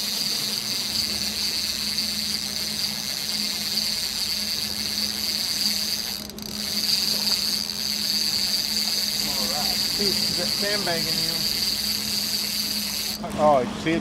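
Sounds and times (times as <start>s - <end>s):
fishing reel drag buzzing: 0.0s - 13.4s
boat engine hum: 0.0s - 14.0s.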